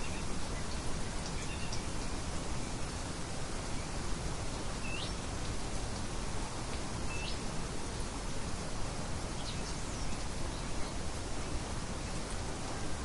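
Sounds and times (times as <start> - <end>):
hissing nature ambience: 0.0 - 13.0.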